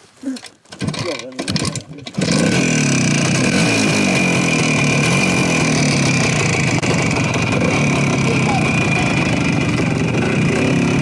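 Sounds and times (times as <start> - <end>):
motorcycle engine running: 0.8 - 11.0.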